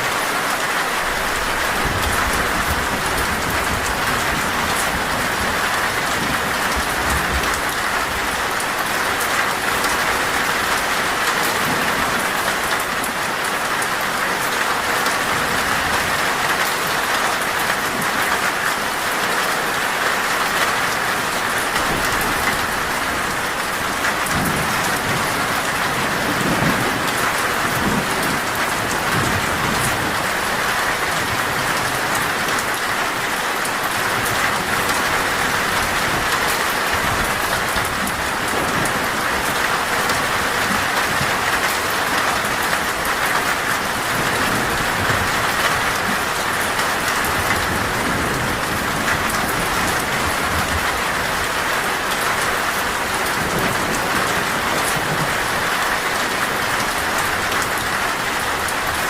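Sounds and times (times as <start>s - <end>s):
heavy rain on a metal roof: 0.0s - 59.0s
low thunder rumbling: 1.0s - 12.8s, 21.4s - 59.0s.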